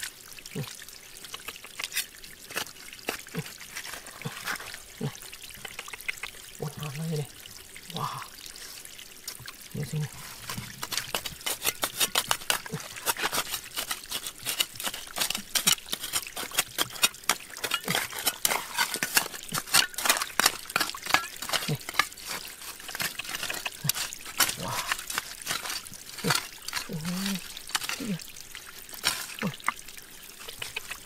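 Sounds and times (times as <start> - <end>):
water splashing and trickling: 0.0 - 31.0.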